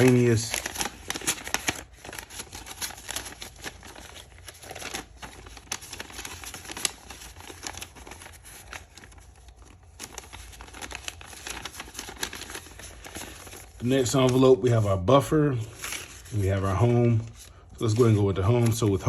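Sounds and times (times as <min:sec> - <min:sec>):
banknotes rustling and crinkling: 0:00.0 - 0:19.0.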